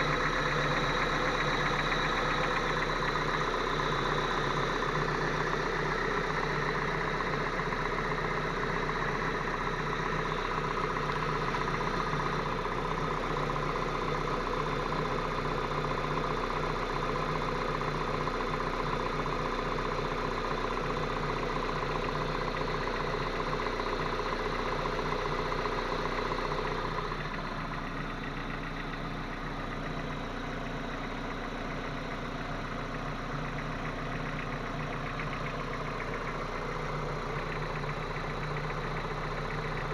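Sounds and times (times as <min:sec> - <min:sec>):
car engine idling with a knock: 0:00.0 - 0:39.9.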